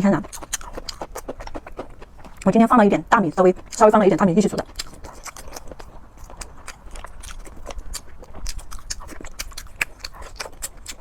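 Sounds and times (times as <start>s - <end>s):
chewing and lip-smacking: 0.0s - 2.6s, 3.4s - 11.0s.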